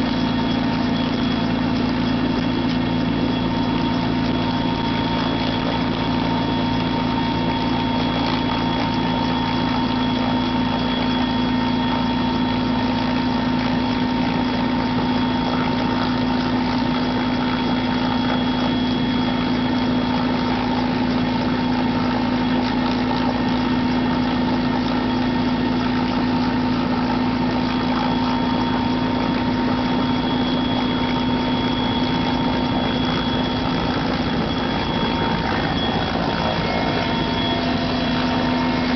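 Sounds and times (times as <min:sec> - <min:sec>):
helicopter engine drone: 0:00.0 - 0:38.9
high whine: 0:00.0 - 0:38.9.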